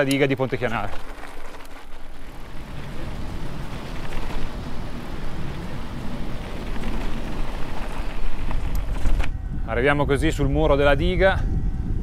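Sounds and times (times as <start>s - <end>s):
bike tyres rolling on pavement: 0.0s - 11.3s
wind buffeting microphone: 0.0s - 12.0s.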